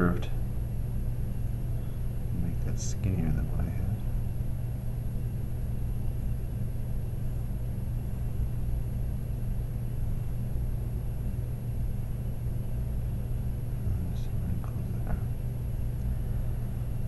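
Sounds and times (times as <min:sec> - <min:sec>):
low hum with faint rumble: 0:00.0 - 0:17.0.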